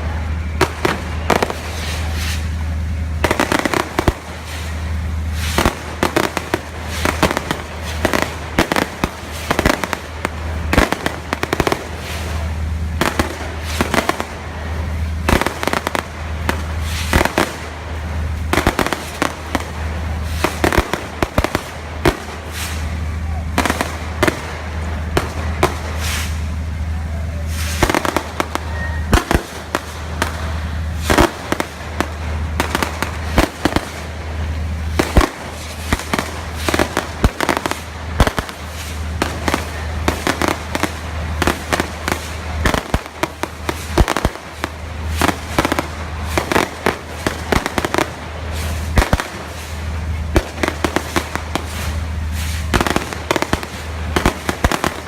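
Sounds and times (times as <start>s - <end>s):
fireworks cracks and bangs: 0.0s - 55.0s
steady low hum: 0.0s - 55.0s.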